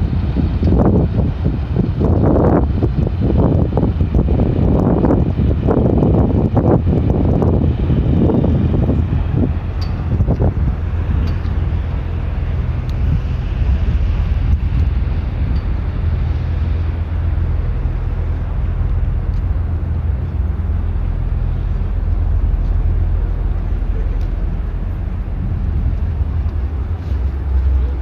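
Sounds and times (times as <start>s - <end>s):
ship engines droning: 0.0s - 28.0s.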